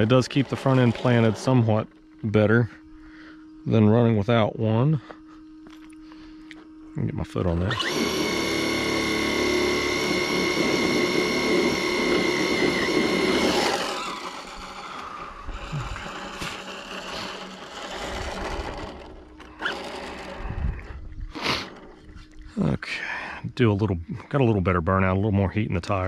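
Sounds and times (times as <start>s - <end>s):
electric motor whining: 0.0s - 4.4s, 5.0s - 22.5s.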